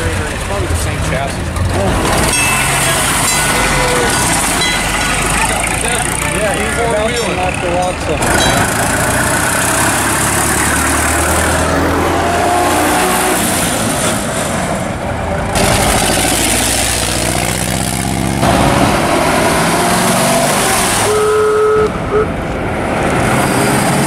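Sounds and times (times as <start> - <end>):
antique car engines driving past: 0.0 - 24.0.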